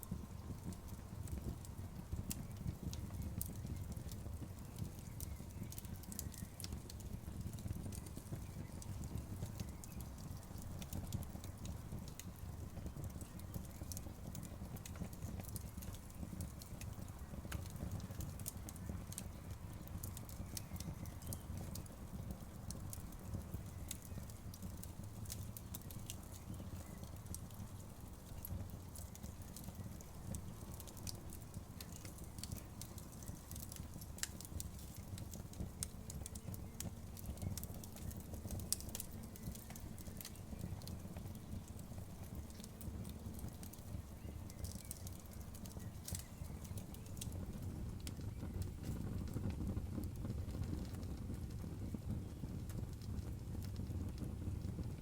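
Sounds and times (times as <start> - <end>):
bonfire rumbling: 0.0 - 55.0
fire crackling and popping: 0.0 - 55.0.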